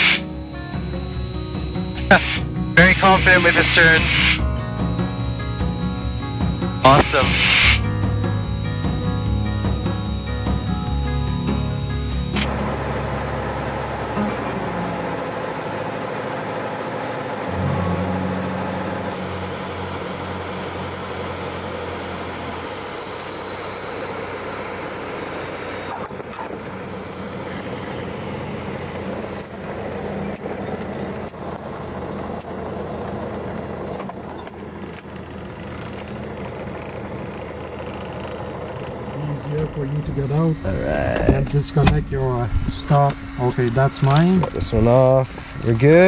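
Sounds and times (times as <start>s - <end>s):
light aircraft engine drone: 0.0s - 46.0s.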